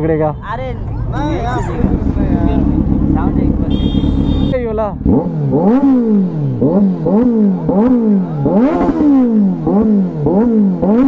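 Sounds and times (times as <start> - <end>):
motorcycle engine revving: 0.7 - 11.0.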